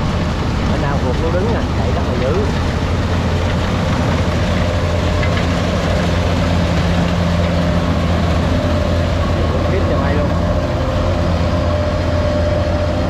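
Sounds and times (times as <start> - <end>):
harvester diesel engine humming: 0.0 - 13.0.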